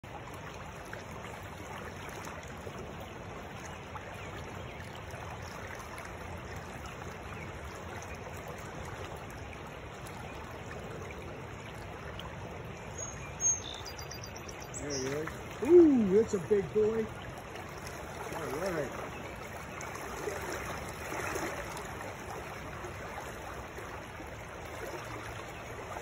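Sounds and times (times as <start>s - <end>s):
shallow stream flowing: 0.0s - 26.0s.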